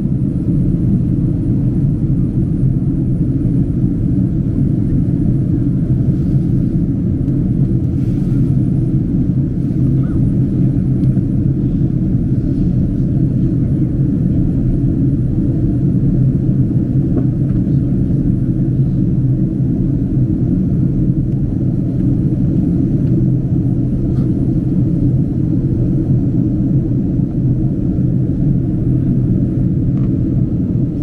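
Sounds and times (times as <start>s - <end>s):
airplane cabin rumble in flight: 0.0s - 31.0s.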